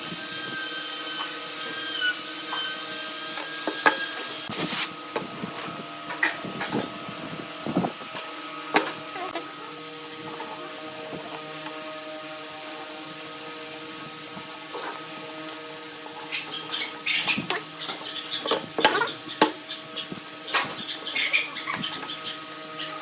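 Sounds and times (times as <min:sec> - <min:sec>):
steady electrical hum: 0:04.1 - 0:23.0.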